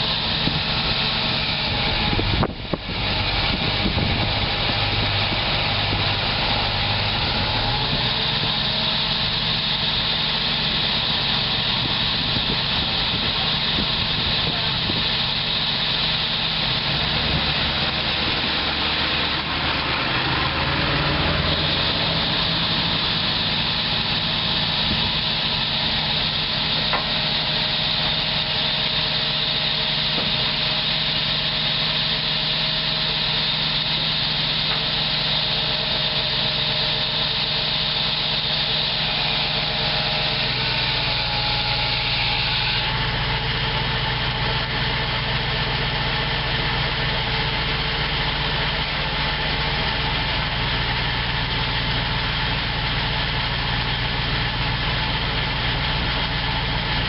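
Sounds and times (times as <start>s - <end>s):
dump truck engine running: 0.0s - 57.0s.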